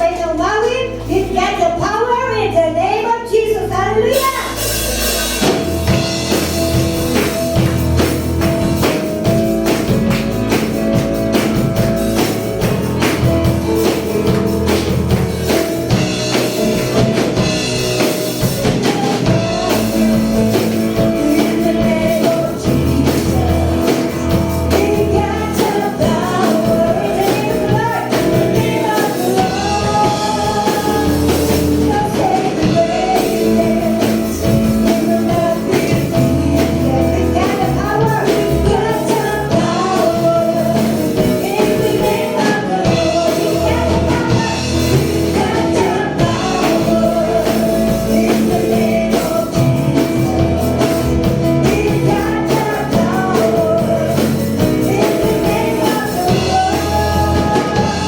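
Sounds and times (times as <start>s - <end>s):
gospel singing with band: 4.1s - 58.0s.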